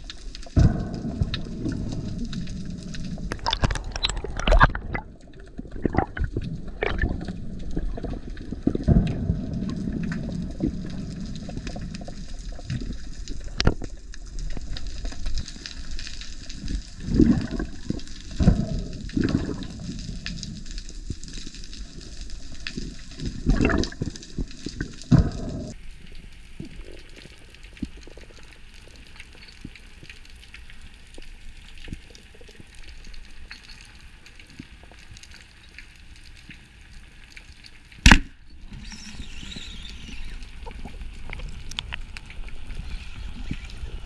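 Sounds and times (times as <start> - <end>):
underwater low rumble: 0.0 - 35.3, 38.0 - 44.0.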